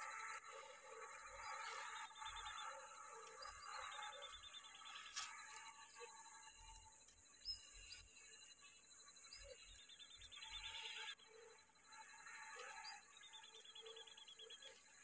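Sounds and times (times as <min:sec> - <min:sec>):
insect chorus hiss: 0:00.0 - 0:15.0.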